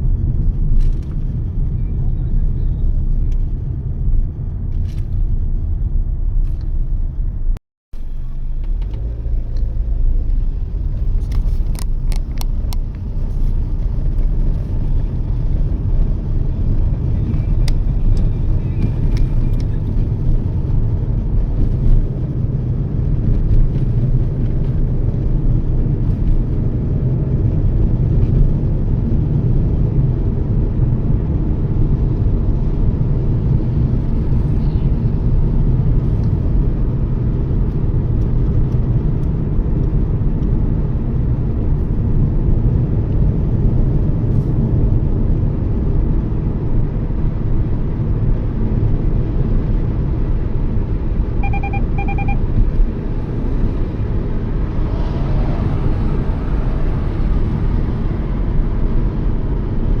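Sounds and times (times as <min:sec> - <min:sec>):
car road and engine noise: 0:00.0 - 1:00.0.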